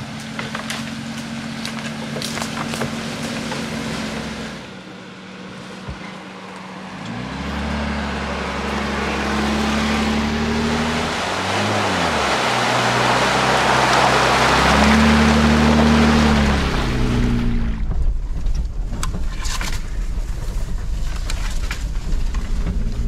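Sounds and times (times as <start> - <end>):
tyres splashing through mud: 0.0 - 4.7, 6.3 - 23.0
car engine accelerating: 0.0 - 23.0.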